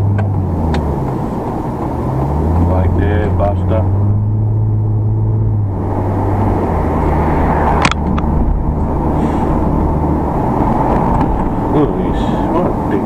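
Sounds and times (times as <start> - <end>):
car engine hum: 0.0 - 13.0
tyre-on-road rumble: 0.0 - 13.0.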